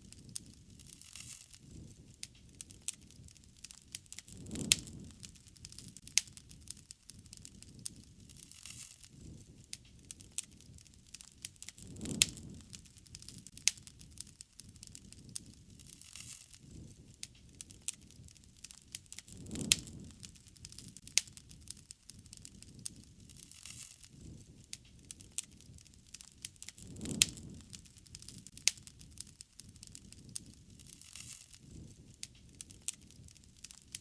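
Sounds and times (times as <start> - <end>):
low rustle of flames: 0.0 - 34.0
rush of flame: 0.0 - 34.0
wood fire crackling and popping: 0.0 - 34.0.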